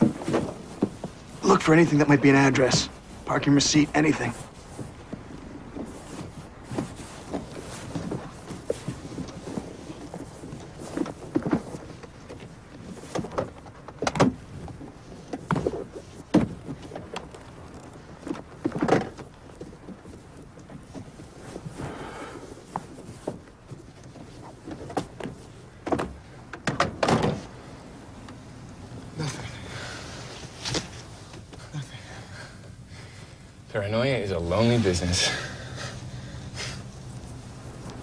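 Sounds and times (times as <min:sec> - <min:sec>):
hands searching car interior: 0:00.0 - 0:33.7, 0:34.4 - 0:38.0.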